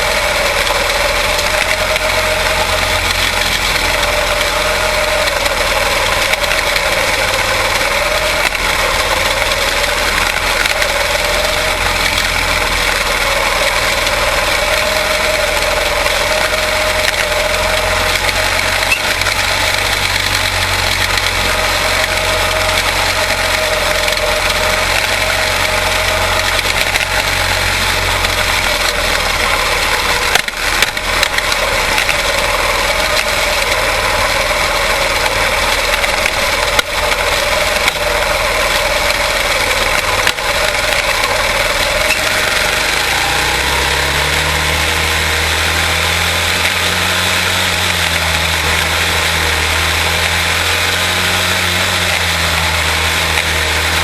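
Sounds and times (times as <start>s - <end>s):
small race car engines buzzing: 0.0s - 54.0s.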